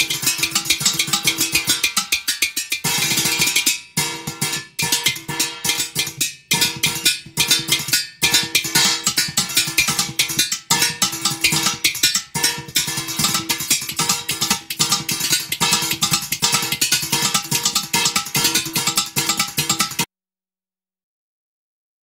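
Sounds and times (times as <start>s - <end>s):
percussion on metal kitchen utensils: 0.0s - 20.1s.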